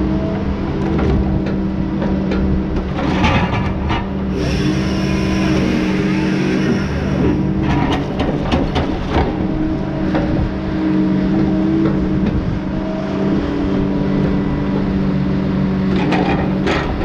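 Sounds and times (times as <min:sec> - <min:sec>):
diesel engine under load: 0:00.0 - 0:17.0
hydraulic whine: 0:00.1 - 0:17.0.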